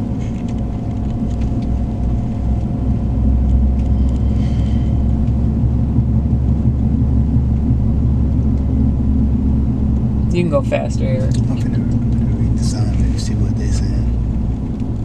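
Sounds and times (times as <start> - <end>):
car driving rumble inside cabin: 0.0 - 15.0.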